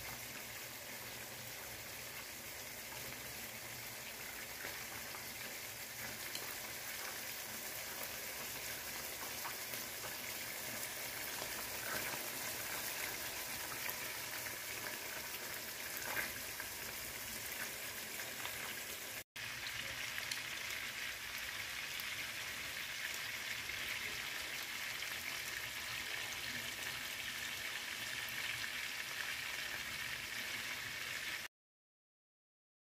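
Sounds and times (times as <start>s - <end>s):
meatballs sizzling in a pan: 0.0s - 31.5s.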